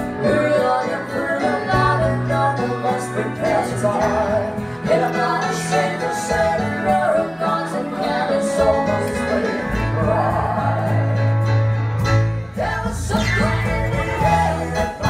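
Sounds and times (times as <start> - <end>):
voices singing together: 0.0 - 11.5, 12.5 - 15.0
live band playing: 0.0 - 15.0.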